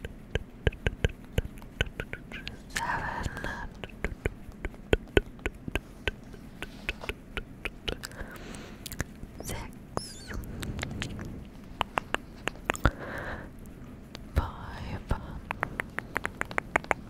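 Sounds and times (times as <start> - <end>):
faint haze noise: 1.3 - 16.9.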